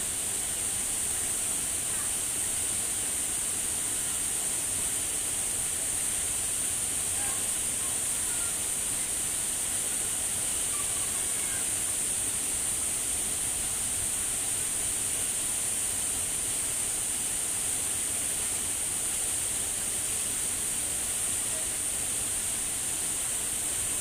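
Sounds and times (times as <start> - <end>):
waterfall rushing: 0.1 - 24.0.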